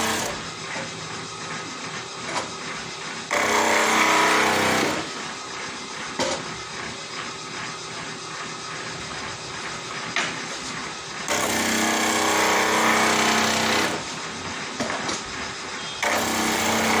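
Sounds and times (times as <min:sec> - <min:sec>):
table saw spinning: 0:00.0 - 0:17.0.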